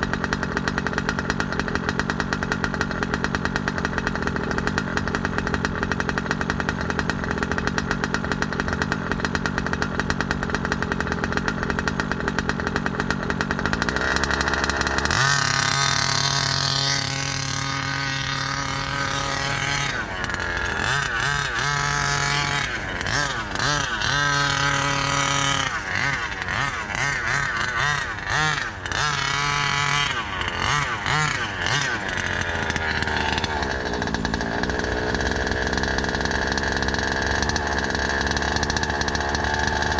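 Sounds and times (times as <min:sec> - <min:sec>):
two-stroke model engine revving: 0:00.0 - 0:39.9.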